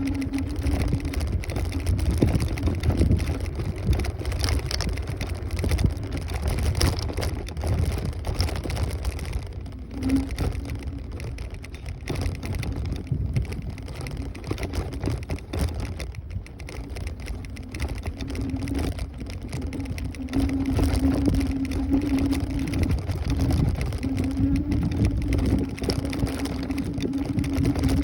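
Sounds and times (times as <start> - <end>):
faint motor hum: 0.0 - 28.0
wind buffeting microphone: 0.0 - 28.0.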